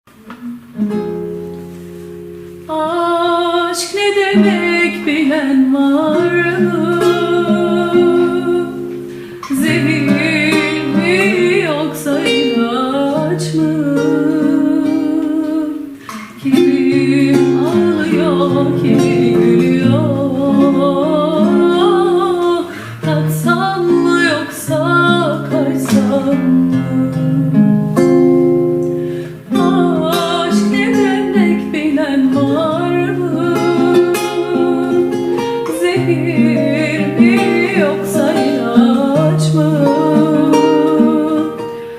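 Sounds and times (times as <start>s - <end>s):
acoustic guitar accompaniment: 0.1s - 41.9s.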